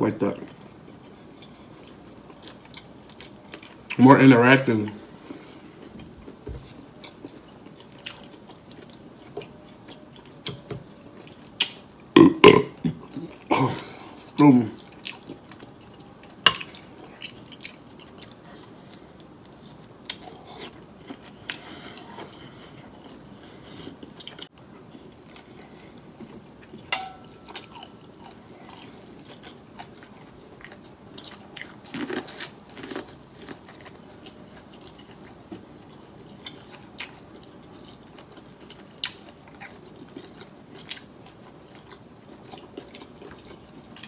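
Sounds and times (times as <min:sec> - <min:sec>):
man chewing food: 0:00.3 - 0:04.0, 0:04.8 - 0:44.0.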